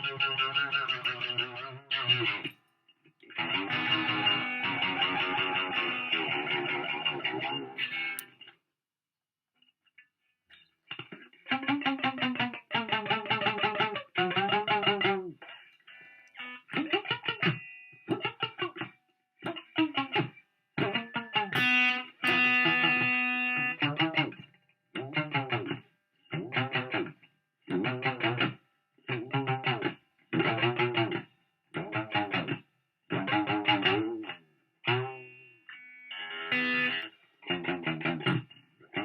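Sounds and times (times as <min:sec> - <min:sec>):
electric guitar with wah pedal: 0:00.0 - 0:02.6, 0:03.2 - 0:08.4, 0:10.9 - 0:39.0.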